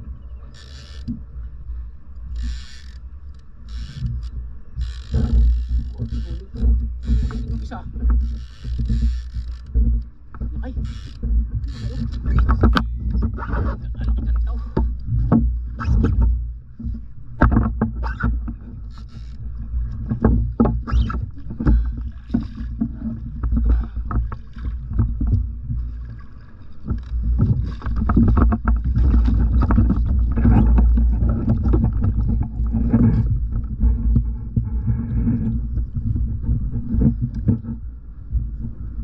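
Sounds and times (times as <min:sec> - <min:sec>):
steady low rumble: 0:00.0 - 0:39.0
water sloshing against hull: 0:00.0 - 0:39.0.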